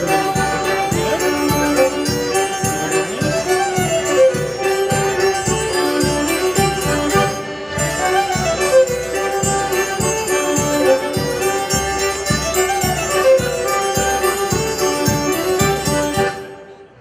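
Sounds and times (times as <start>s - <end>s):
steady drum beat: 0.0s - 16.4s
accordion: 0.0s - 17.0s
violins playing melody: 0.0s - 17.0s.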